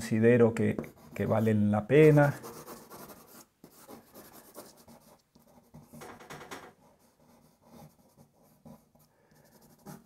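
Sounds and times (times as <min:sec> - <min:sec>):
pencil scratching on paper: 0:00.7 - 0:10.0.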